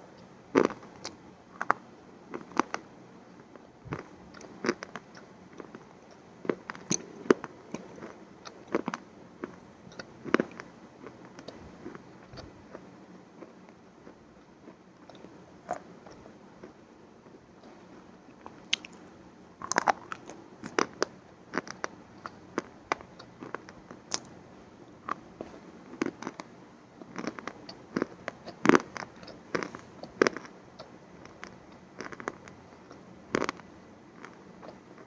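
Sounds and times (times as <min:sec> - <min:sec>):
chewing crunchy food: 0:00.6 - 0:02.9, 0:03.9 - 0:16.8, 0:18.4 - 0:35.0.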